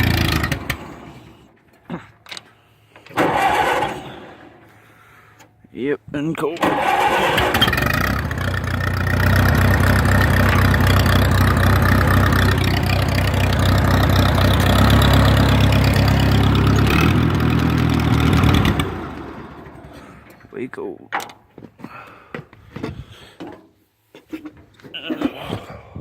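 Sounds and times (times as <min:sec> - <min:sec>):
tractor engine cranking: 0:00.0 - 0:05.6, 0:06.2 - 0:21.6.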